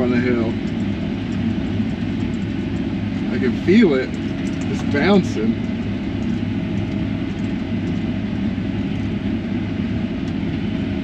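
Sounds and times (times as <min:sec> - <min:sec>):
combine harvester engine drone: 0:00.0 - 0:11.0.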